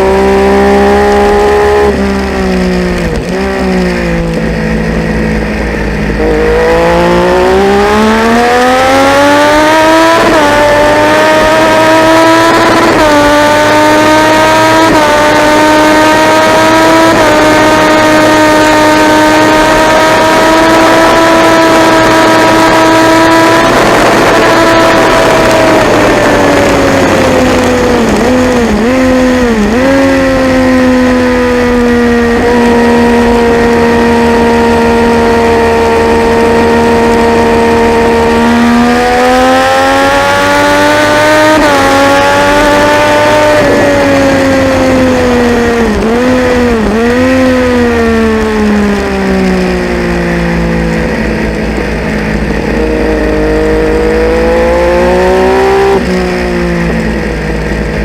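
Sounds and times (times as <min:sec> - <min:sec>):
blipped downshifts: 0:00.0 - 0:58.0
motorcycle engine at racing revs: 0:00.0 - 0:58.0.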